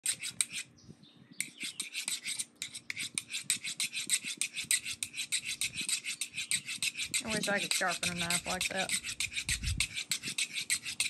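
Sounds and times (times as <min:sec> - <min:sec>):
knife scraping on sharpening rod: 0:00.0 - 0:00.7, 0:01.4 - 0:11.0.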